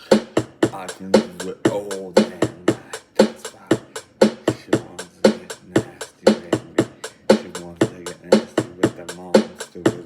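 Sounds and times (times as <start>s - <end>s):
hip-hop drum beat: 0.0s - 10.0s.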